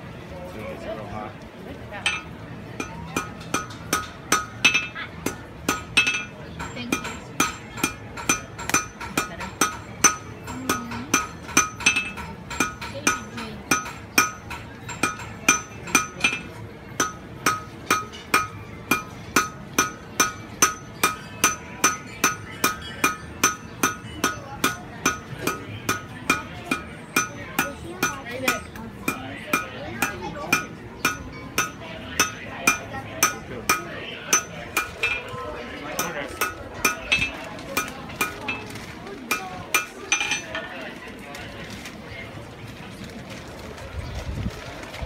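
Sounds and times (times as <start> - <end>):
hammer striking iron on anvil: 2.0 - 38.6, 39.3 - 40.6.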